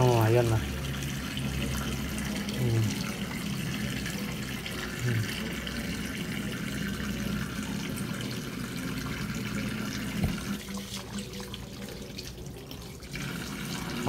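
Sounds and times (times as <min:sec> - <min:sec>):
water running into metal basin: 0:00.0 - 0:14.0.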